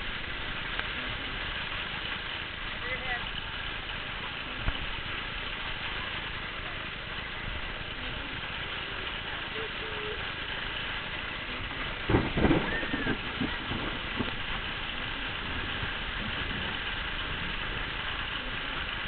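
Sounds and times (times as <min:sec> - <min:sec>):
hail and rain hiss: 0:00.0 - 0:19.0.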